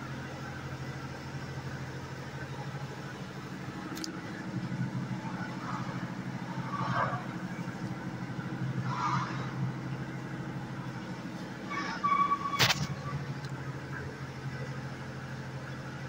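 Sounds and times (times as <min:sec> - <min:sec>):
elevator car humming: 0:00.0 - 0:16.0.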